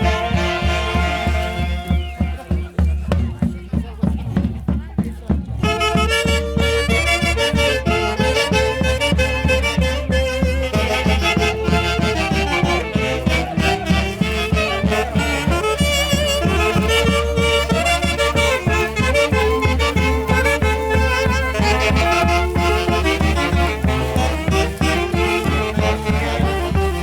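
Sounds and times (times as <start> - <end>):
reedy wind melody: 0.0 - 2.1, 5.6 - 27.0
steady driving beat: 0.0 - 27.0.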